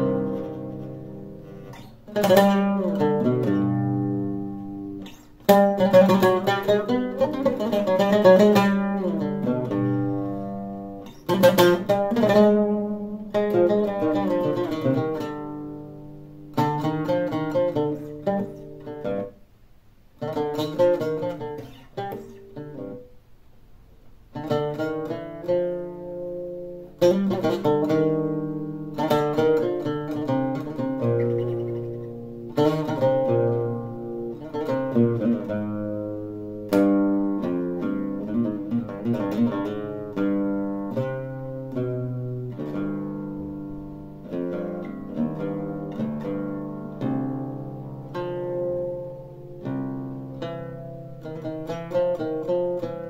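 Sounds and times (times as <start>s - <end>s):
solo lute plucked runs and chords: 0.0s - 19.5s, 20.2s - 23.2s, 24.2s - 53.0s.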